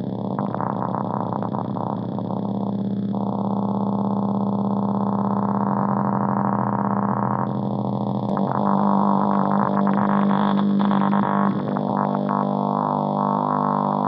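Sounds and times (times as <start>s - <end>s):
buzzing electronic drone: 0.0s - 14.0s.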